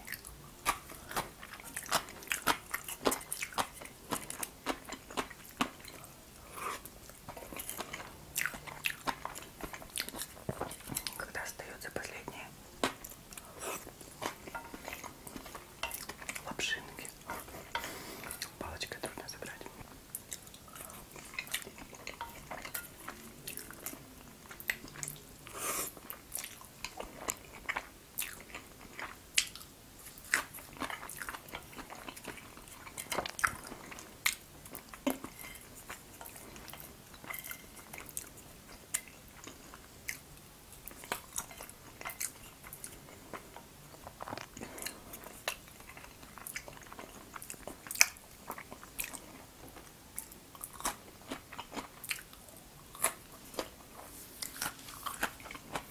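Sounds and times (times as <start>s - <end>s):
chewing and wet mouth sounds: 0.0s - 55.9s.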